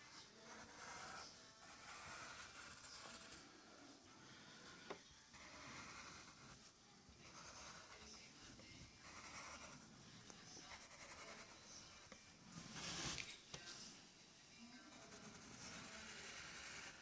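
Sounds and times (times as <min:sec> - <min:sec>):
drawing tool scratching on paper: 0:00.0 - 0:03.5, 0:04.6 - 0:09.9, 0:10.6 - 0:13.3, 0:14.8 - 0:17.0.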